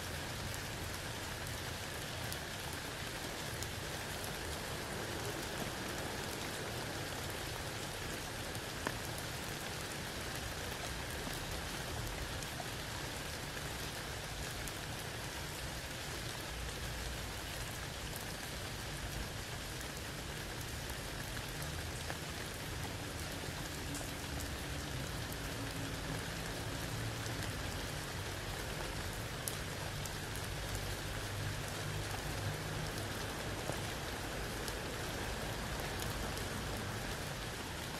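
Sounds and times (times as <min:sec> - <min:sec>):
rain falling on wet ground: 0:00.0 - 0:37.9.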